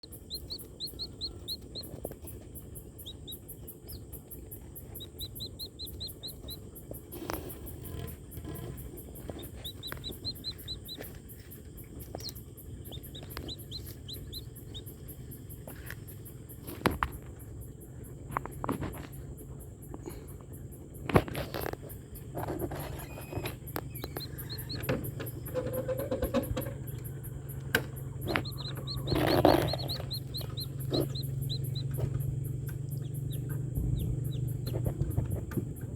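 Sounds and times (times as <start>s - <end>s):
chicks cheeping: 0.0s - 35.9s
low steady hum: 0.0s - 35.9s.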